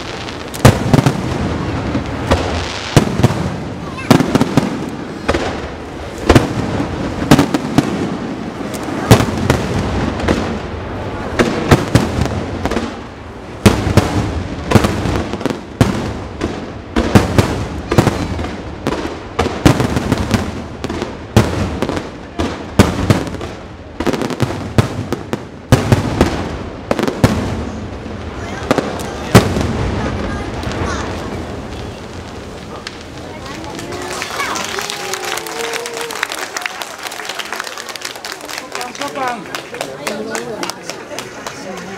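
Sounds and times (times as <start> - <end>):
firework bangs: 0.0 - 41.8
firework crackle: 0.0 - 41.9.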